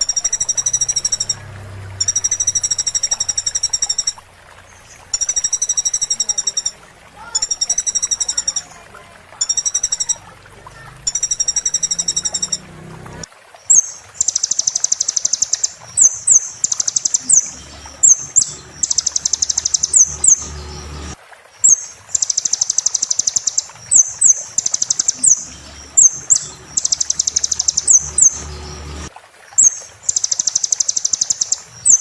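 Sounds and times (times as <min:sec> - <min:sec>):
sunbird buzzy trills: 0:00.0 - 0:32.0.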